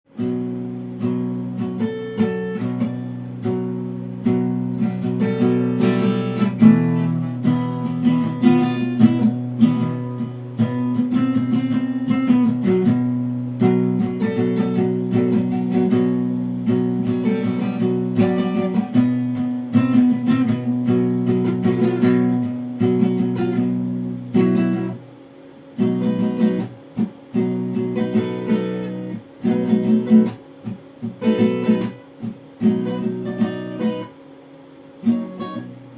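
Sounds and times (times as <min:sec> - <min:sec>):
strummed guitar chords: 0:00.1 - 0:35.9.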